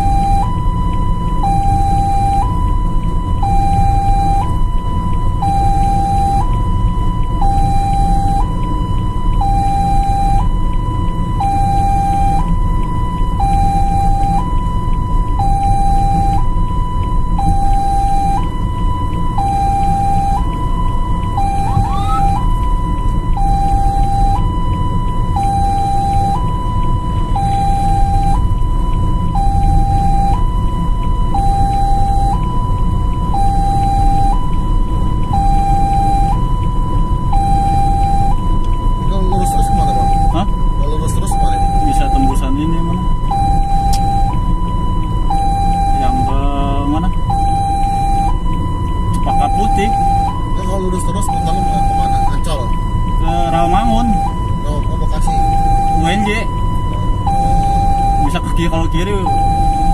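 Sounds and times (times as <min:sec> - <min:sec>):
ambulance two-tone siren: 0:00.0 - 0:59.9
vehicle low rumble: 0:00.0 - 0:59.9.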